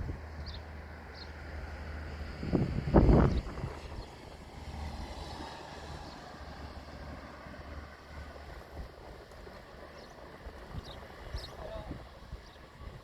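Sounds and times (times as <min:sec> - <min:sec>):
wind buffeting microphone: 0:01.4 - 0:13.0.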